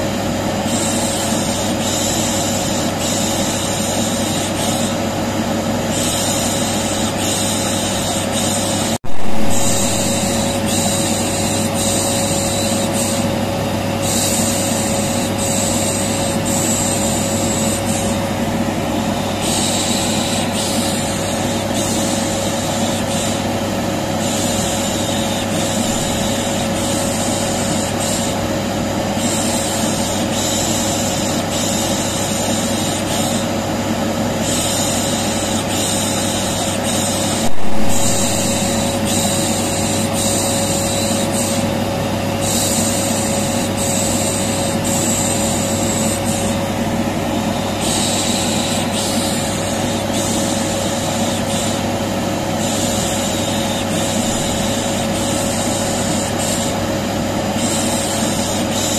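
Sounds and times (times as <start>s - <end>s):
vacuum cleaner motor humming: 0.0s - 58.9s.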